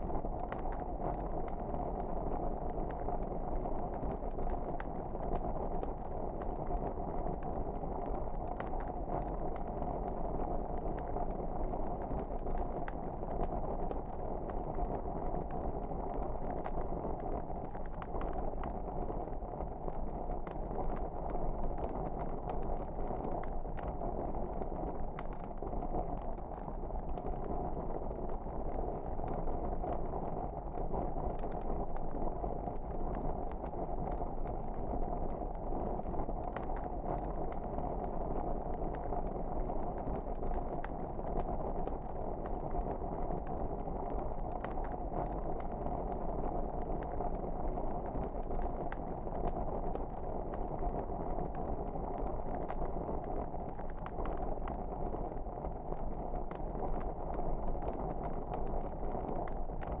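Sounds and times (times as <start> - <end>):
wood fire crackling: 0.1 - 60.0.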